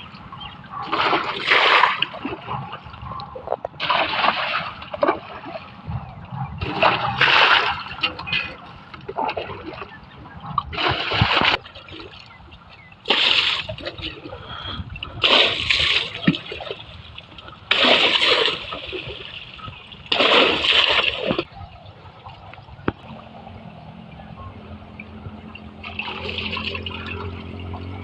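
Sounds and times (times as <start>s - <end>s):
water splashing onto tractor: 0.0s - 2.9s, 3.8s - 5.8s, 6.6s - 24.1s, 24.7s - 28.0s.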